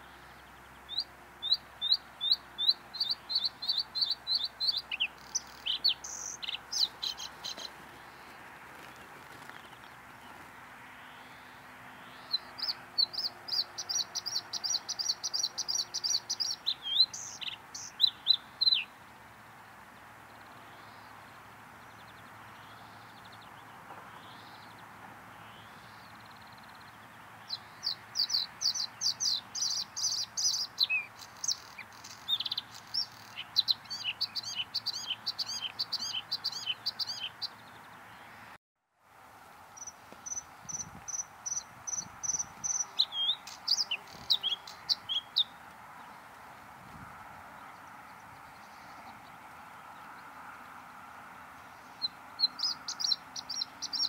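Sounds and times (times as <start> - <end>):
bird singing: 0.0 - 19.2, 20.3 - 38.5, 39.8 - 46.7, 47.6 - 50.8, 51.6 - 54.0.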